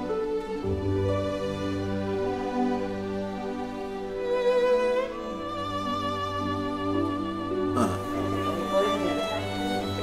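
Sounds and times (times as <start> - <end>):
slow background music chords: 0.0 - 10.0.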